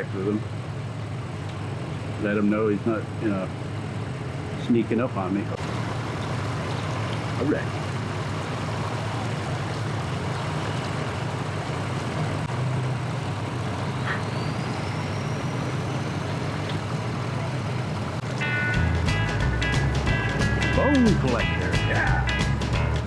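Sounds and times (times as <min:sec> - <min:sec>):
engines idling: 0:00.0 - 0:23.0.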